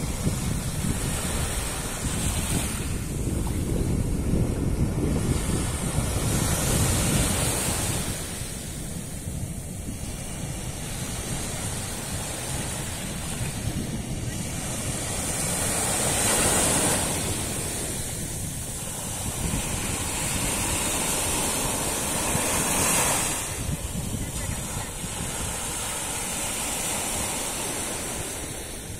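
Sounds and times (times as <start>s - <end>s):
waves breaking on shore: 0.0s - 28.9s
wind buffeting microphone: 0.0s - 28.9s.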